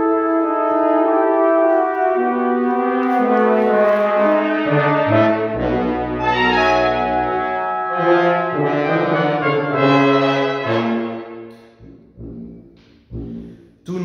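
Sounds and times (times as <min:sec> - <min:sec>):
brass ensemble playing chords: 0:00.0 - 0:14.0.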